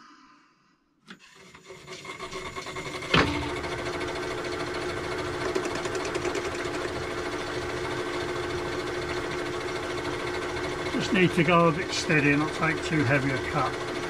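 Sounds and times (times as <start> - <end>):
metalworking lathe whining: 1.2 - 14.0.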